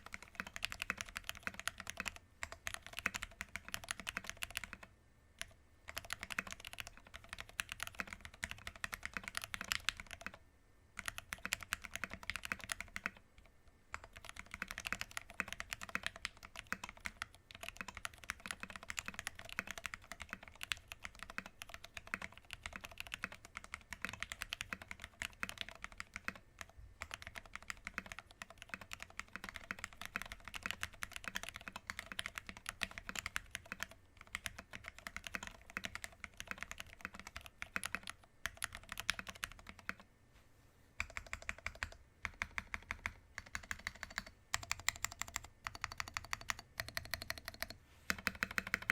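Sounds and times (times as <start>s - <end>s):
mechanical keyboard typing: 0.0s - 10.4s, 11.0s - 40.0s, 41.0s - 48.9s.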